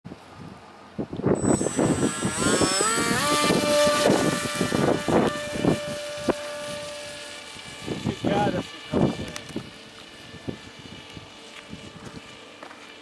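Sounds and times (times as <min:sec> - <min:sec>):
electric motor and propeller whining: 0:00.1 - 0:13.0
wind buffeting microphone: 0:00.4 - 0:12.3.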